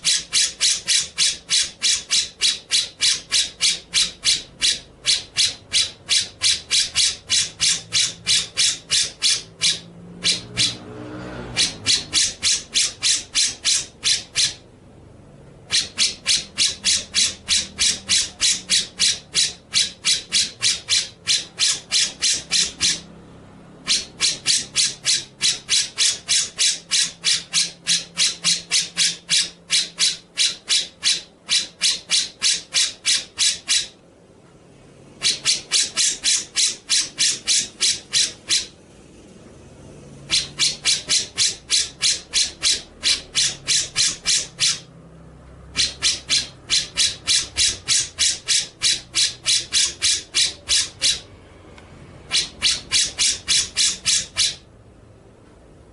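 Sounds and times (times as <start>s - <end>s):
harsh bird call repeated rapidly: 0.0s - 51.4s, 52.2s - 55.3s.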